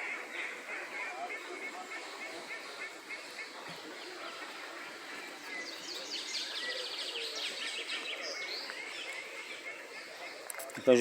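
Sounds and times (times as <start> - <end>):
outdoor background hiss: 0.0 - 11.0
songbirds chirping and singing: 0.0 - 11.0.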